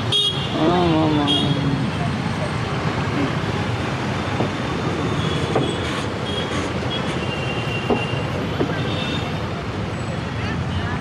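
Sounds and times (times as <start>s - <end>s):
busy road traffic: 0.0s - 11.0s.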